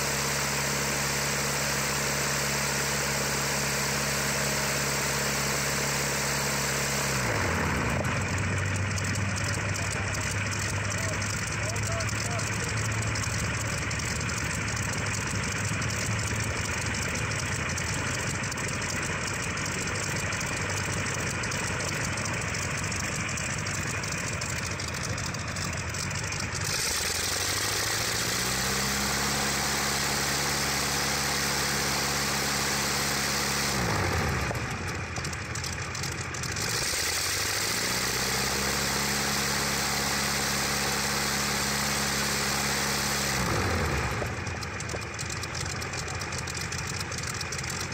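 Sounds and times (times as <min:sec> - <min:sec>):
radial aero engine running: 0:00.0 - 0:47.9.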